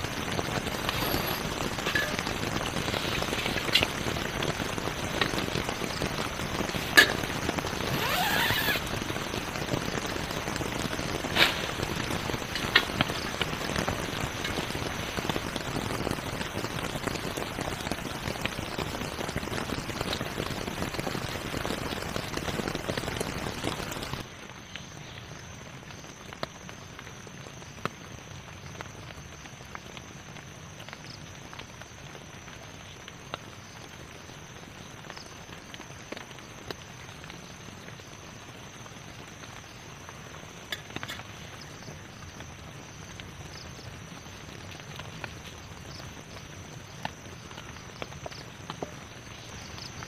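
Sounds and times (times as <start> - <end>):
rain pattering on a tent: 0.0 - 50.0.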